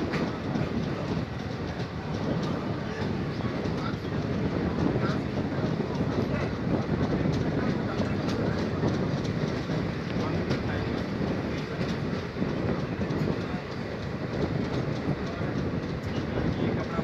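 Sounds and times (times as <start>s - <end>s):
faint rail clicks: 0.0s - 17.0s
train wheels rumbling on rails: 0.0s - 17.0s.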